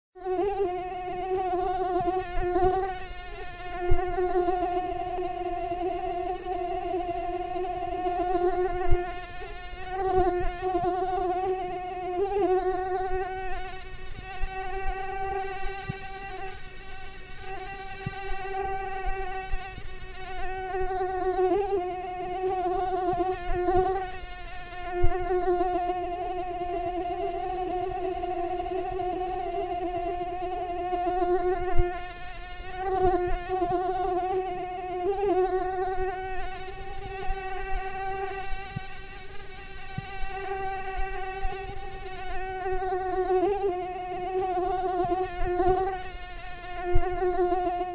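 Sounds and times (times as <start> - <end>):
mosquito wings whining: 0.2 - 47.9.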